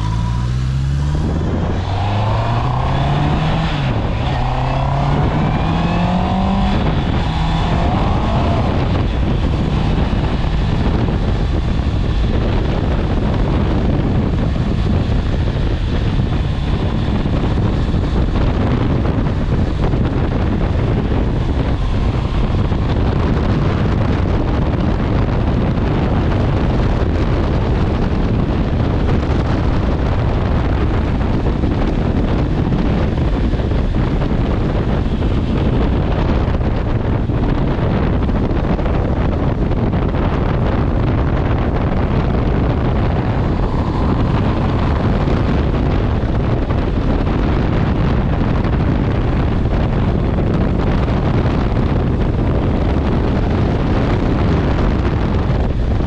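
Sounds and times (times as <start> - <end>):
motorcycle engine running: 0.0 - 1.8, 2.6 - 56.0
wind noise on microphone: 0.0 - 56.0.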